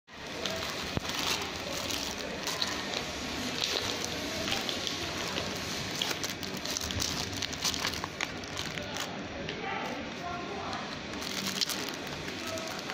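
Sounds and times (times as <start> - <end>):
plastic packaging crinkling: 0.1 - 12.9.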